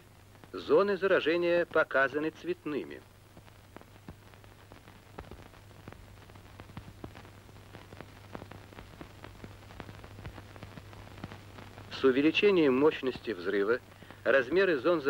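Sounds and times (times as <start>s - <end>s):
film crackles and clicks: 0.0s - 15.0s
steady low hum: 0.0s - 15.0s.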